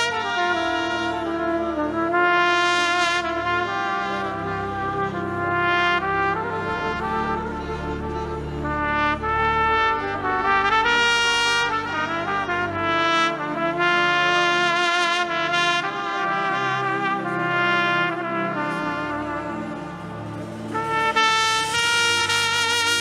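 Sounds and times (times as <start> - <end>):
low keyboard chords: 0.0 - 23.0
trumpet solo melody: 0.0 - 23.0.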